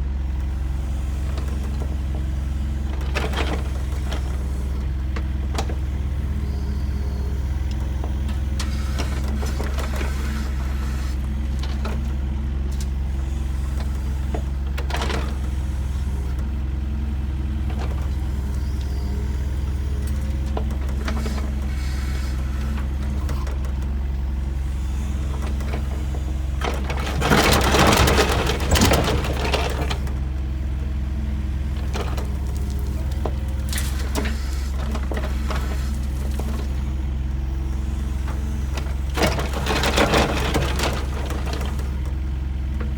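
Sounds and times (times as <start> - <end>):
construction machine engine running: 0.0 - 42.9.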